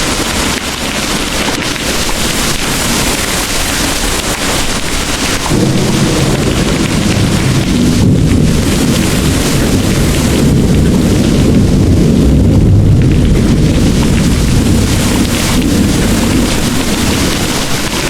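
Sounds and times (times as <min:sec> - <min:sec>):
heavy rain: 0:00.0 - 0:18.0
rolling thunder: 0:02.1 - 0:18.0.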